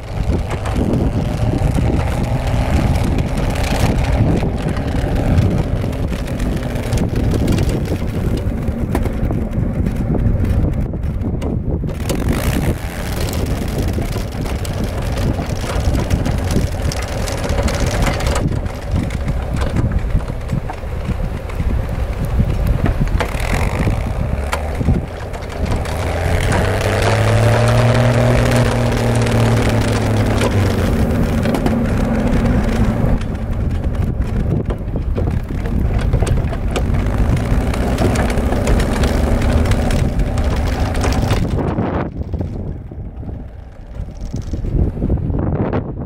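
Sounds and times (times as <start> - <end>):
tracked snow machine engine: 0.0 - 45.8.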